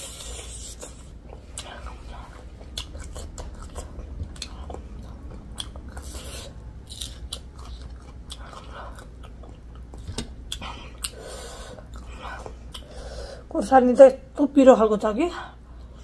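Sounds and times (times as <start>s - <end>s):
person chewing with mouth clicks: 0.0s - 13.0s.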